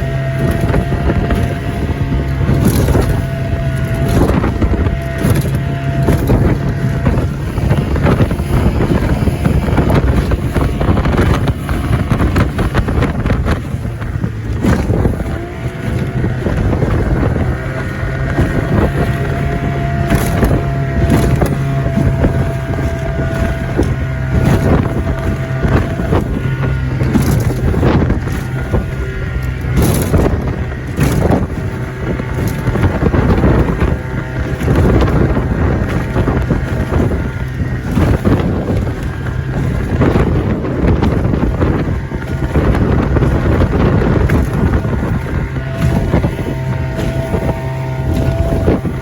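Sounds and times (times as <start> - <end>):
hull slapping against waves: 0.0 - 49.0
outboard motor running: 0.0 - 49.0
wind on microphone: 0.0 - 49.0.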